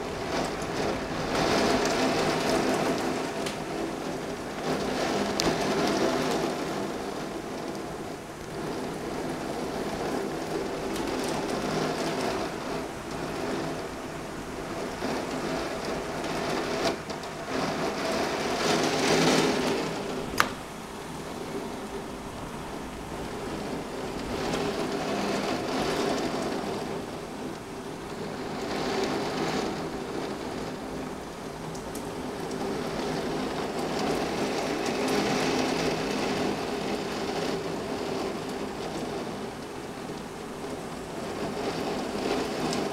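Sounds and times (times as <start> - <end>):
rain pelting against window: 0.0 - 42.9
strong wind gusts: 0.0 - 42.9.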